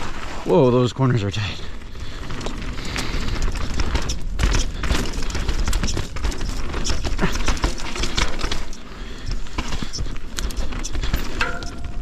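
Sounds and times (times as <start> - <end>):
bike chain and frame rattling: 1.5 - 12.0.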